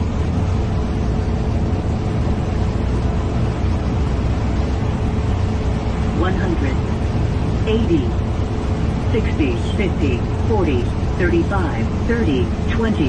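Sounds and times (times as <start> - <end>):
airflow and engine noise: 0.0 - 13.0
faint steady hum: 0.0 - 13.0.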